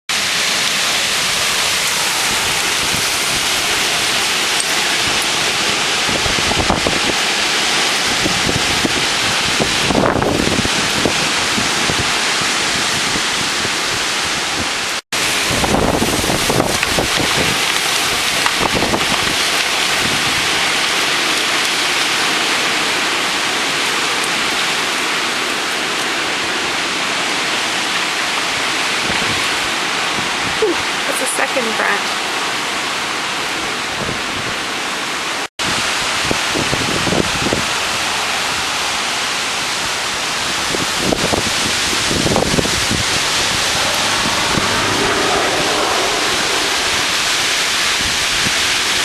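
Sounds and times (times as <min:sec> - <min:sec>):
loud rush of wind: 0:00.1 - 0:31.2, 0:31.8 - 0:49.0
wind gusts buffeting microphone: 0:00.2 - 0:34.9, 0:35.6 - 0:49.0.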